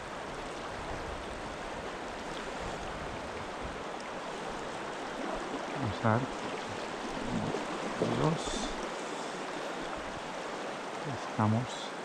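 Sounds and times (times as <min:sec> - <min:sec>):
shallow river flowing: 0:00.0 - 0:12.0.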